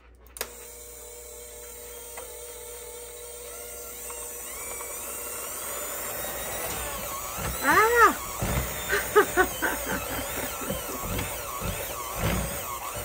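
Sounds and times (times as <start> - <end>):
electric mixer motor whining: 0.4 - 13.0.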